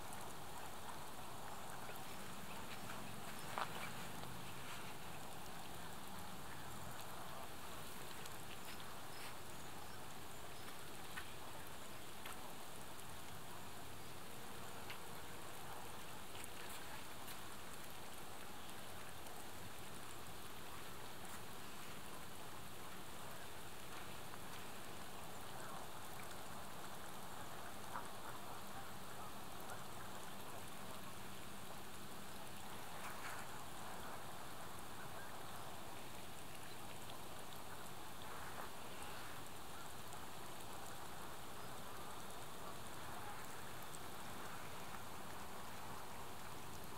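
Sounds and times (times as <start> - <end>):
faint ticks: 0.0 - 46.9
outdoor background hiss: 0.0 - 46.9.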